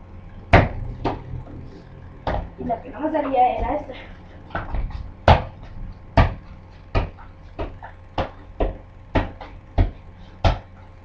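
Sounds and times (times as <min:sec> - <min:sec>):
soccer ball being kicked: 0:00.5 - 0:01.3, 0:02.2 - 0:03.8, 0:04.4 - 0:10.8.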